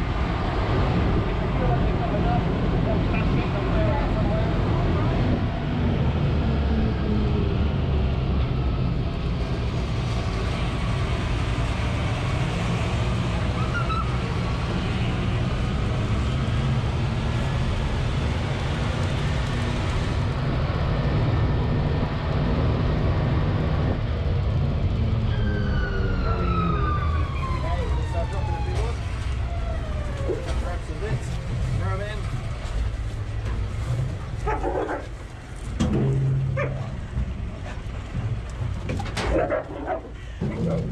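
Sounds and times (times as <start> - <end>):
vehicle engine rumbling: 0.0 - 40.9.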